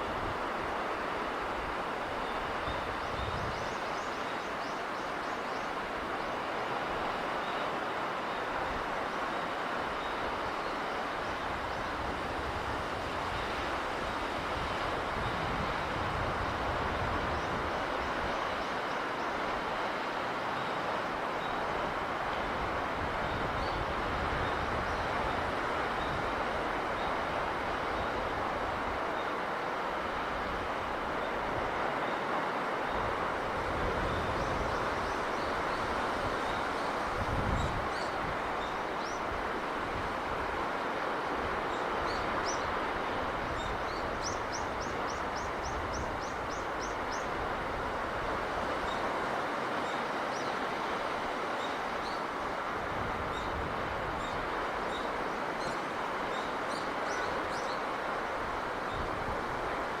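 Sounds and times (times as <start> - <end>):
sea breeze rushing: 0.0 - 60.0.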